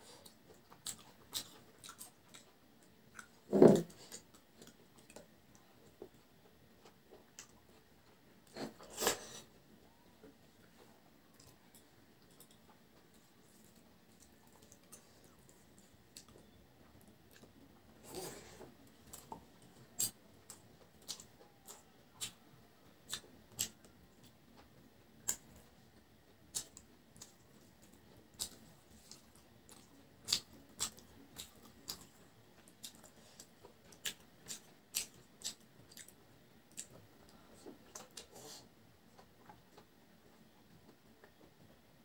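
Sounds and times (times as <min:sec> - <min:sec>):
soft rustle of food: 0:00.0 - 0:42.0.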